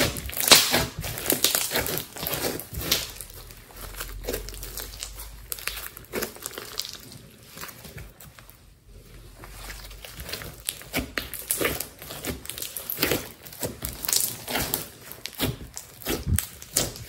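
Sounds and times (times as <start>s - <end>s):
slime popping and crackling: 0.0s - 8.6s, 9.4s - 17.0s.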